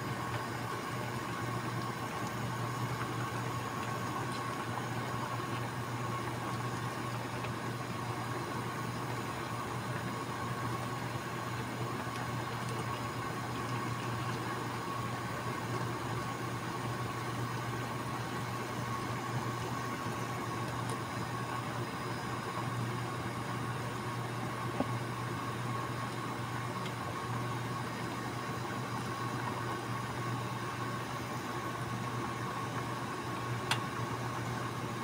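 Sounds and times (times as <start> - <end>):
water bubbling in a pan: 0.0 - 35.0.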